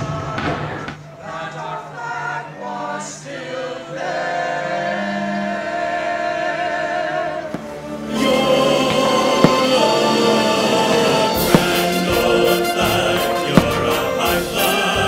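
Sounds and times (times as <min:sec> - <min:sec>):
choir singing held notes: 0:00.0 - 0:15.0
music: 0:00.0 - 0:15.0.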